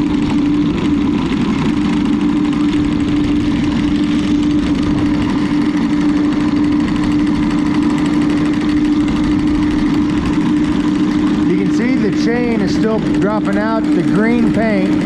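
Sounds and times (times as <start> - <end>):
anchor chain rumble: 0.0 - 15.0
windlass motor hum: 0.0 - 15.0.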